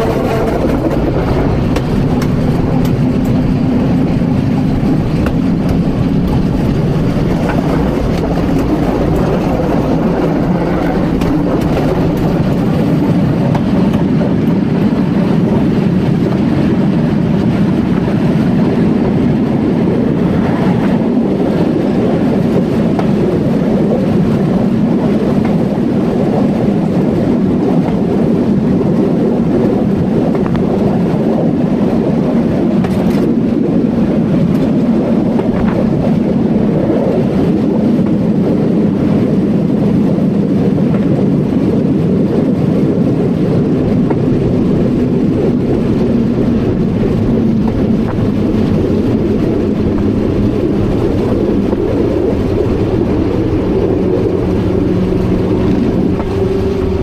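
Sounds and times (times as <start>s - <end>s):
electric train rumble and hum: 0.0s - 57.0s.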